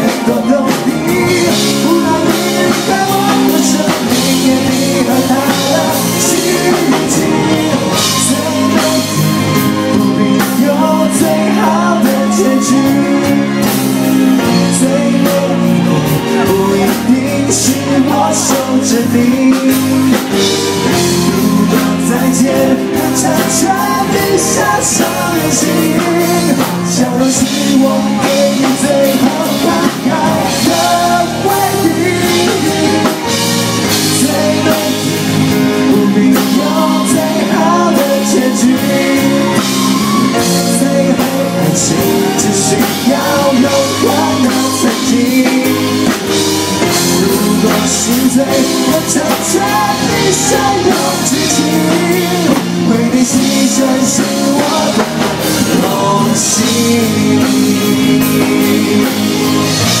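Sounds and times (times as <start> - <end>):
live rock band playing: 0.0 - 60.0
man singing: 0.0 - 60.0.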